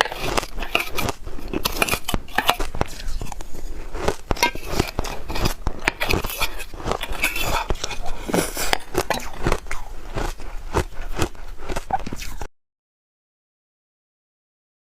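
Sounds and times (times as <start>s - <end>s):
crunching shaved ice: 0.0s - 12.5s.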